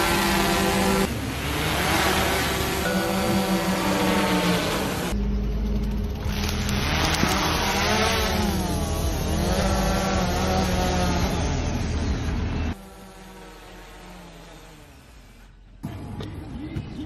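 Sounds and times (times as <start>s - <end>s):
drone propellers whining: 0.0s - 16.2s.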